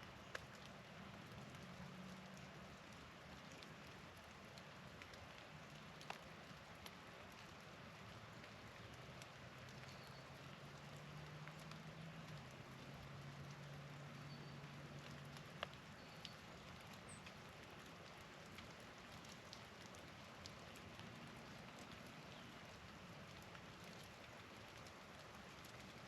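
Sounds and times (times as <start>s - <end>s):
light ticks: 0.2s - 26.0s.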